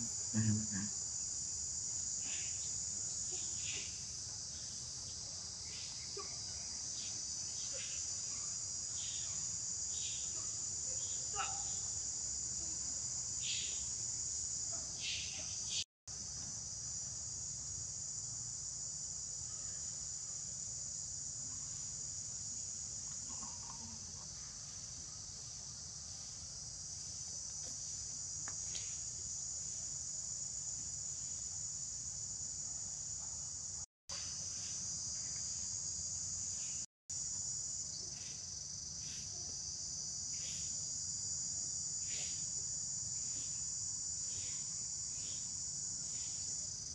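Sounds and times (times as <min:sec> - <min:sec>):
insects chorus: 0:00.0 - 0:46.9.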